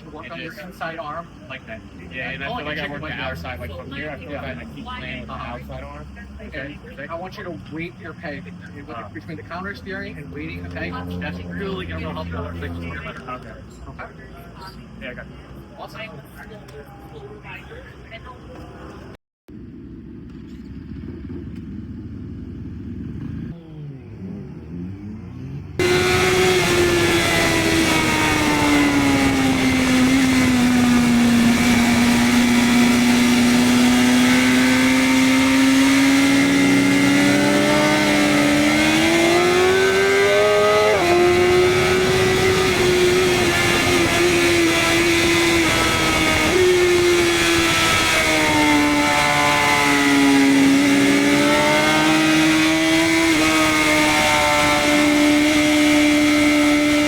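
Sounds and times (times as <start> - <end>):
motorcycle engine revving: 0.0 - 14.3, 19.5 - 57.0.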